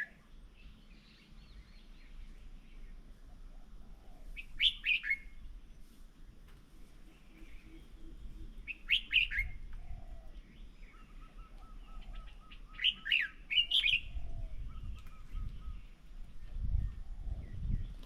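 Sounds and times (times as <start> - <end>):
birds chirping loudly: 0.0 - 5.9, 6.9 - 18.0.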